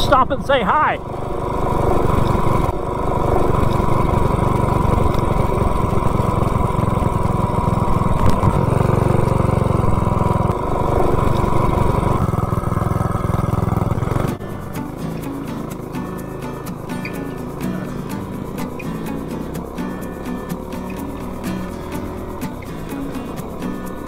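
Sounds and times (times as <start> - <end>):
small motorbike engine running: 0.0 - 24.0.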